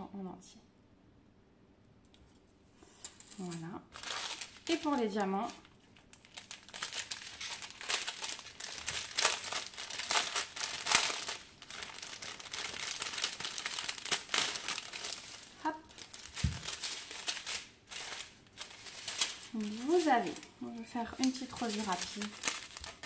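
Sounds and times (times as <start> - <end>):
thin plastic bags crinkling: 2.8 - 23.0.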